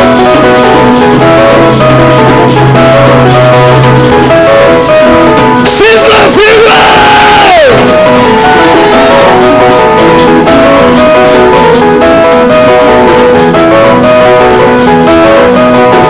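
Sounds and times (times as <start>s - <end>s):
gospel band playing: 0.0s - 16.0s.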